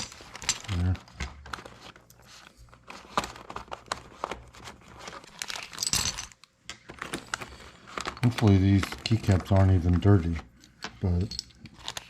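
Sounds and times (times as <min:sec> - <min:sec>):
plastic bag crinkling: 0:00.0 - 0:10.2, 0:11.0 - 0:12.0.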